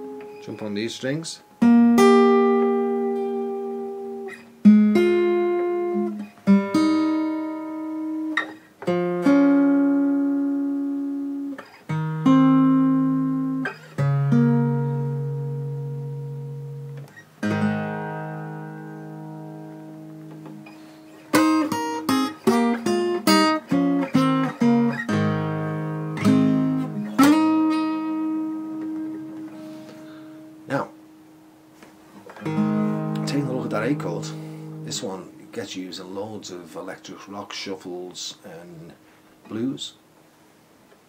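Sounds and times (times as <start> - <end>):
acoustic guitar playing: 0.0 - 40.6.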